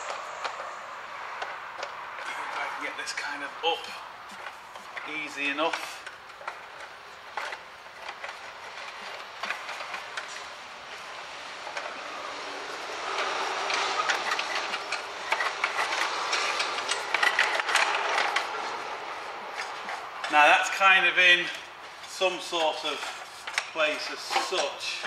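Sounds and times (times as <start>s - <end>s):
metal scraping and clanking: 0.0s - 20.4s, 21.5s - 25.0s.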